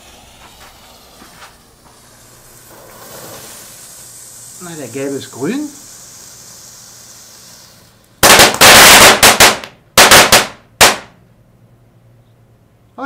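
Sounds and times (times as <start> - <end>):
firework crackling pops: 0.0 - 11.2
firework fountain hissing: 0.0 - 11.2.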